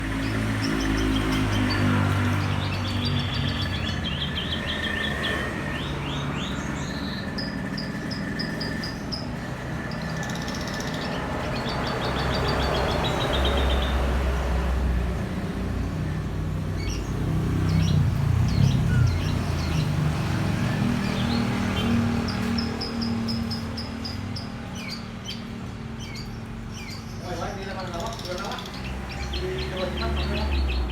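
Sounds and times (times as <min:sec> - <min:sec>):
songbird chirping and trilling: 0:00.0 - 0:30.9.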